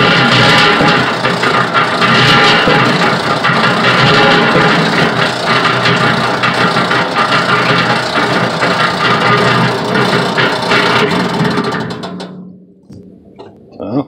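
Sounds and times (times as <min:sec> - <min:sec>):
roller wheel rattling: 0:00.0 - 0:13.6
motor hum: 0:00.0 - 0:13.8.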